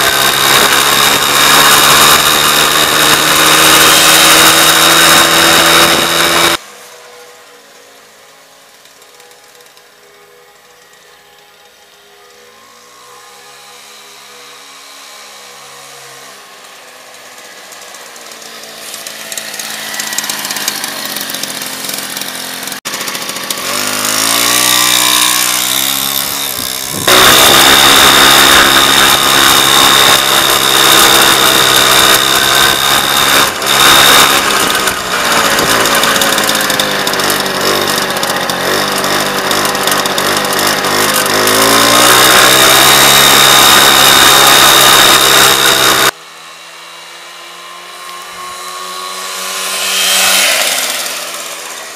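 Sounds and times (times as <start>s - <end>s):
moped engine buzzing: 0.0s - 51.9s.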